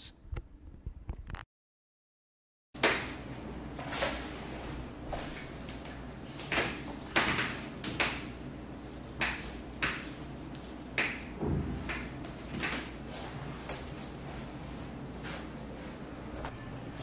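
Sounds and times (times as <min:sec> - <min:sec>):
steady low hum: 0:02.8 - 0:17.0.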